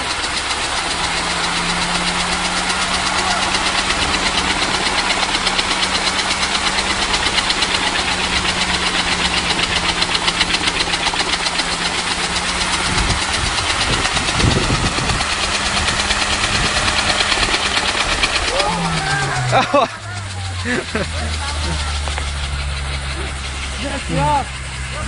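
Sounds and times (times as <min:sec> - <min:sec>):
helicopter engine running: 0:00.0 - 0:25.0
low rumble: 0:00.0 - 0:25.0.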